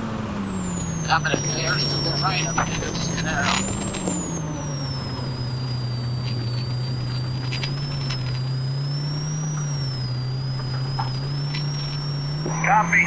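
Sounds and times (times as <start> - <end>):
engine running at cruise: 0.0 - 13.0
thin high whine: 0.3 - 13.0.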